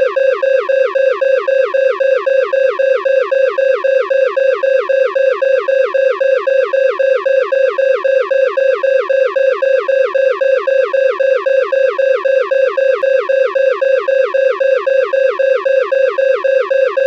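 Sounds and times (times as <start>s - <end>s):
electronic alarm tone pulsing: 0.0s - 17.0s.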